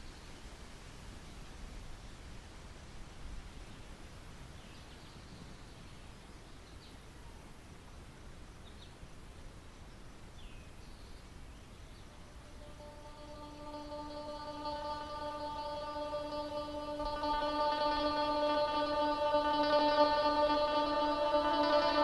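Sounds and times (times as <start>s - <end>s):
outdoor ambience hiss: 0.0s - 22.0s.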